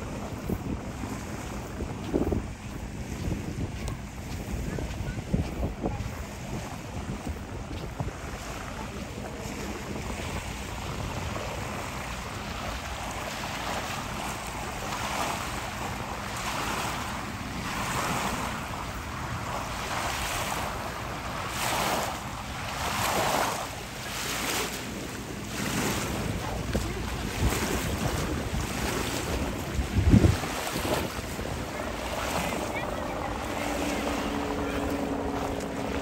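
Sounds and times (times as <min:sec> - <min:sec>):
seawater lapping at beach: 0:00.0 - 0:36.0
water swishes: 0:00.0 - 0:36.0
wind buffeting microphone: 0:00.0 - 0:36.0.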